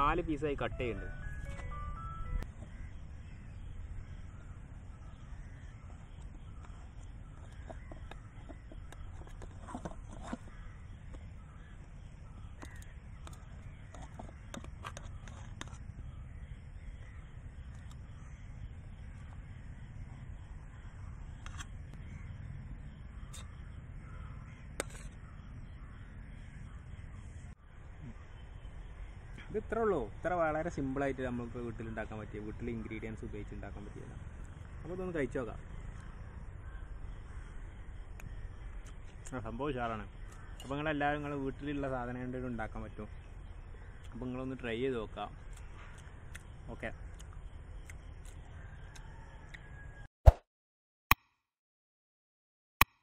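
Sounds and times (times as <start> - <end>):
birds calling: 0.0 - 49.2
low outdoor rumble: 0.0 - 50.0.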